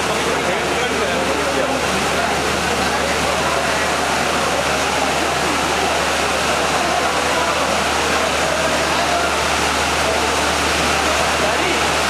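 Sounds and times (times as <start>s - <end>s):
indistinct crowd voices: 0.0s - 12.0s.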